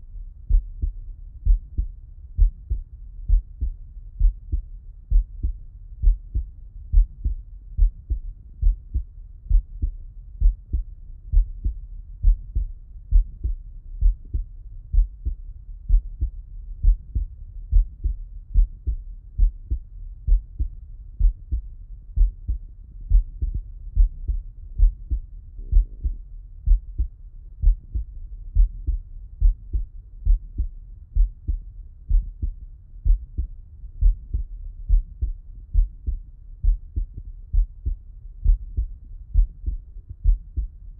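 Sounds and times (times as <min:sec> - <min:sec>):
heartbeat through stethoscope: 0:00.0 - 0:40.9.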